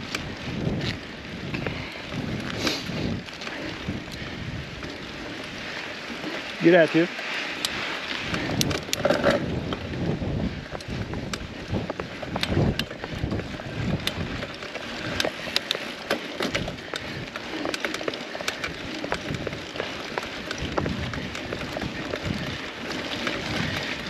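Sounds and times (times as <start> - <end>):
wind on microphone: 0.0 - 6.6, 7.6 - 24.0
bike rattling clicks: 0.0 - 24.0
bike tyres on dirt: 0.0 - 24.0.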